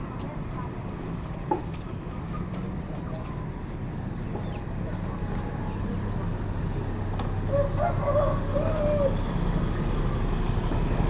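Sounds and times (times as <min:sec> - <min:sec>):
motorbike traffic hum: 0:00.0 - 0:11.0.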